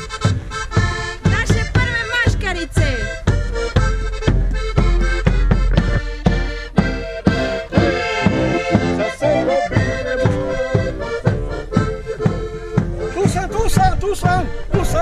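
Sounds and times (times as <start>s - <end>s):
accordion playing folk tune: 0.0s - 15.0s
bass drum beating: 0.0s - 15.0s.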